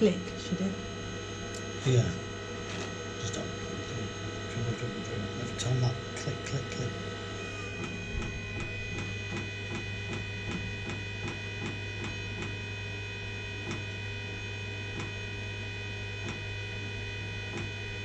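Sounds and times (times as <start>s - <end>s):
constant hum: 0.0s - 18.0s.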